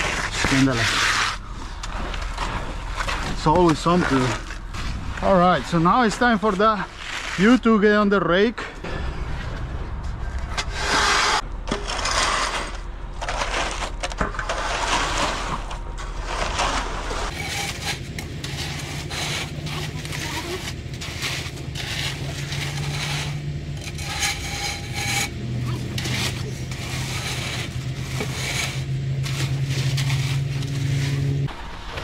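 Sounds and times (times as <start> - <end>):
rake scraping wet concrete: 0.0 - 8.5, 10.6 - 31.5
low steady hum: 0.0 - 32.0.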